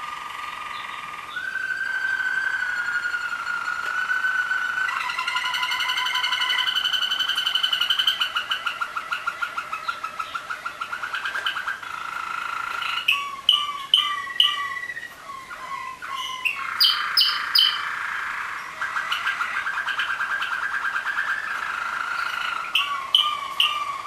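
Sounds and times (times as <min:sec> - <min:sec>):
canaries singing trills: 0:00.0 - 0:24.0.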